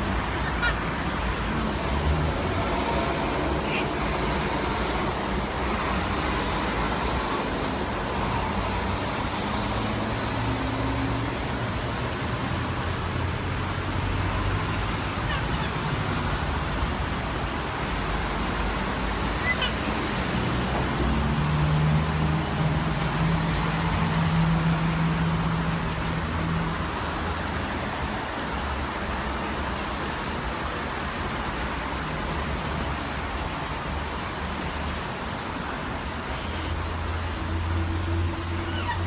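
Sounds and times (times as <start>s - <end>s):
motor vehicle engine hum with hiss: 0.0s - 39.0s.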